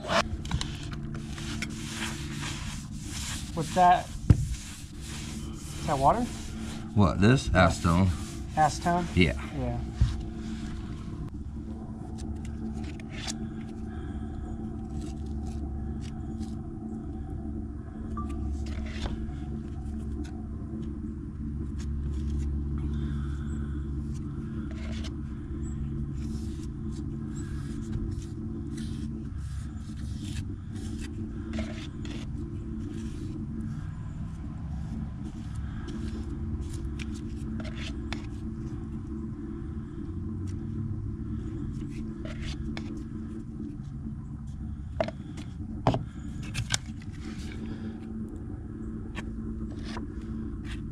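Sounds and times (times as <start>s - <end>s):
low motor hum with rumble: 0.0s - 50.9s.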